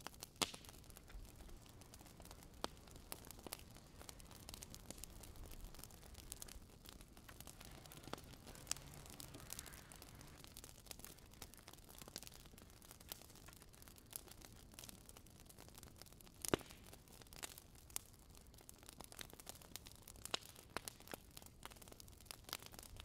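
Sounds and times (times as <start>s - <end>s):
charcoal embers crackling: 0.0s - 23.0s.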